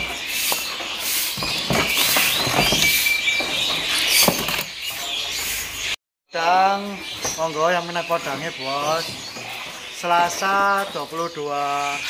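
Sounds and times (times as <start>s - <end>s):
clicks and rustling in cages: 0.0s - 5.5s, 7.0s - 12.0s
songbirds chirping: 0.0s - 12.0s.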